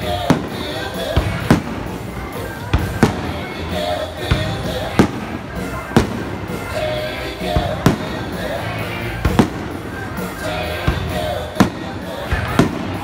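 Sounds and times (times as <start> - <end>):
fireworks bangs: 0.0 - 8.6, 9.2 - 13.0.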